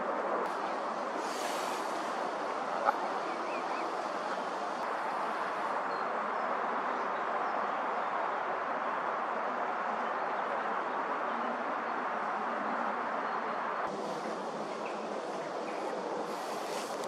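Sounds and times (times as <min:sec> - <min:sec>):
rushing outdoor noise: 0:00.0 - 0:17.0.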